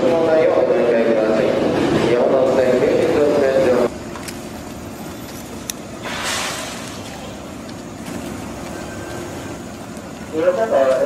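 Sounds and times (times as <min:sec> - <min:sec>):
stationary train humming: 0:00.0 - 0:11.0.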